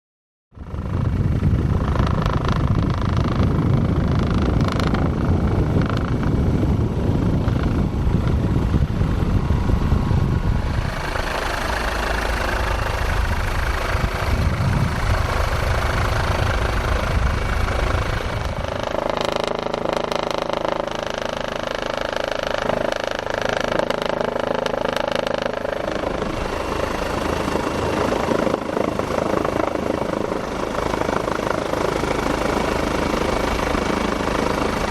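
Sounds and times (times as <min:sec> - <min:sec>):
helicopter engine and rotor: 0:00.6 - 0:34.9.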